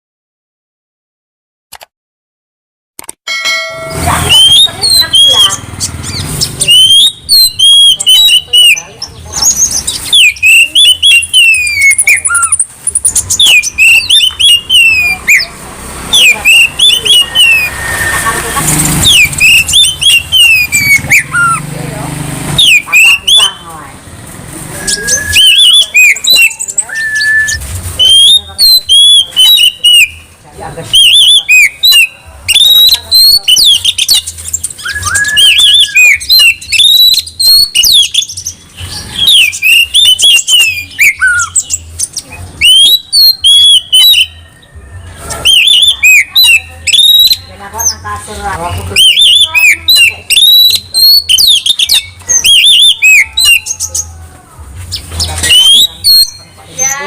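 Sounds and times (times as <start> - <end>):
bird singing high whistled notes: 3.7 - 21.7, 22.6 - 23.6, 24.7 - 30.3, 30.9 - 48.0, 48.7 - 54.1, 54.9 - 57.0.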